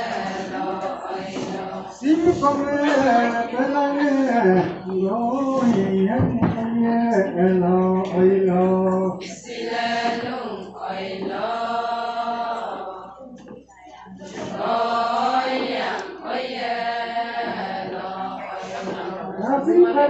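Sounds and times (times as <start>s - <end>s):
women singing unaccompanied: 0.0s - 20.0s.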